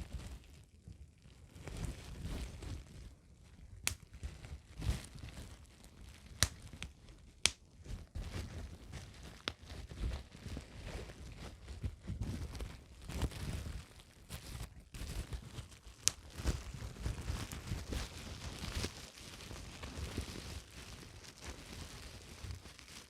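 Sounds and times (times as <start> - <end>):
bubble wrap crinkling: 0.0 - 23.0
bubble wrap popping: 0.0 - 23.0.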